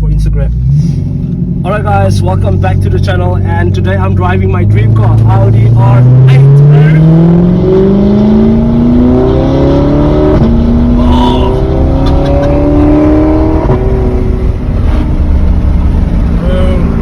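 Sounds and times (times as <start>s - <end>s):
car engine accelerating hard: 0.5s - 17.0s.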